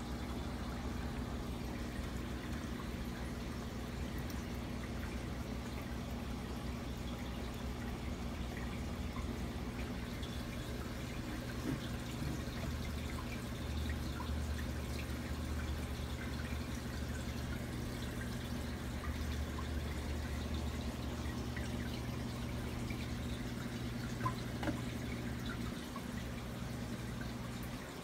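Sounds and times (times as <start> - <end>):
aquarium filter hum: 0.0 - 28.0
water trickling and dripping: 0.0 - 28.0.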